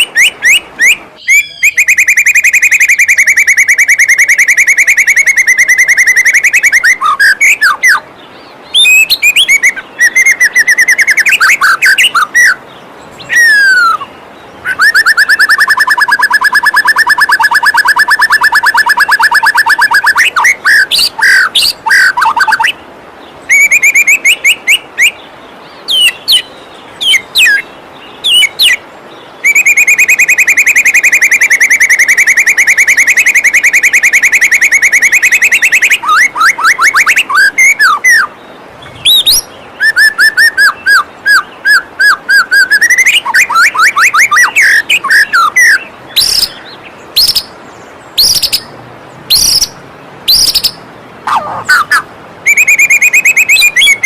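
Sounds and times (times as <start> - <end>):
songbird singing: 0.0 - 54.0
falling water rushing: 5.2 - 54.0.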